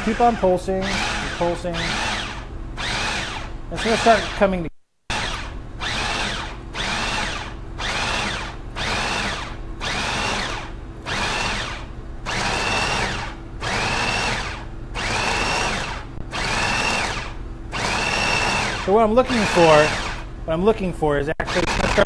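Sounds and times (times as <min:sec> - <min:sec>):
food processor motor whirring: 0:00.0 - 0:04.4, 0:05.1 - 0:20.3, 0:21.4 - 0:22.0.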